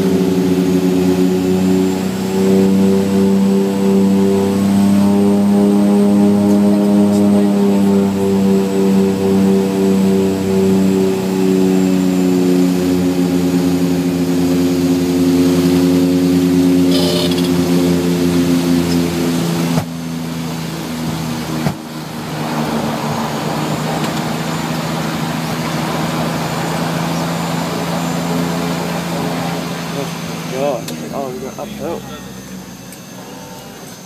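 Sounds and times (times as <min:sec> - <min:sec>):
rushing roar of runway rollout: 0:00.0 - 0:34.0
turboprop engines droning: 0:00.0 - 0:34.0.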